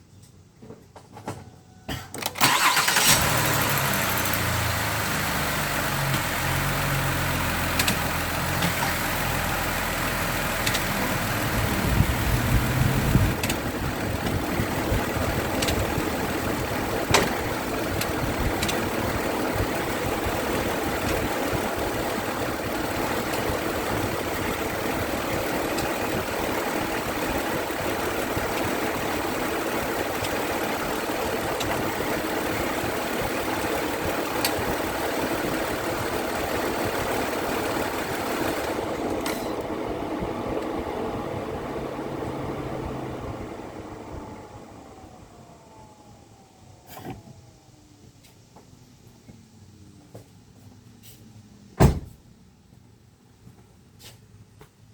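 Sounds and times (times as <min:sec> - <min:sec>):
car engine starting and idling: 0:02.1 - 0:48.8.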